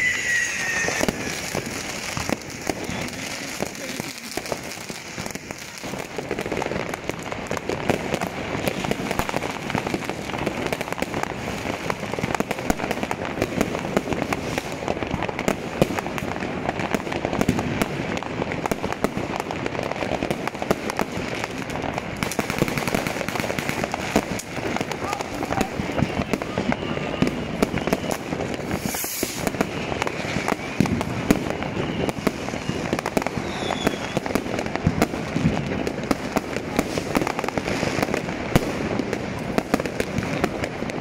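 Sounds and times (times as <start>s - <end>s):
fireworks crackling and banging: 0.0s - 41.0s.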